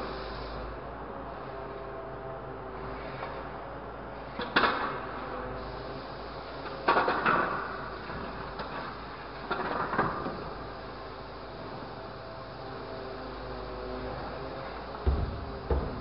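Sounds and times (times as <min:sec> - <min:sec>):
truck engine and hydraulics hum: 0:00.0 - 0:16.0.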